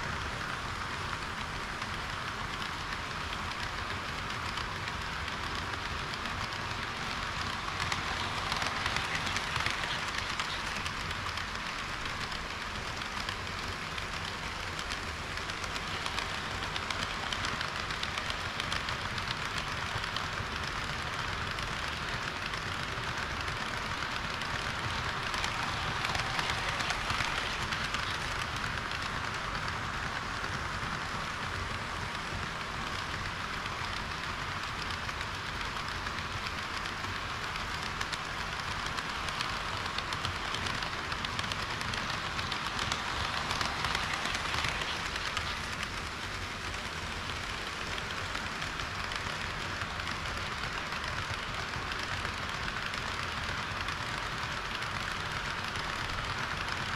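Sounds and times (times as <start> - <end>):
model train wheels rattling: 0.0 - 56.9.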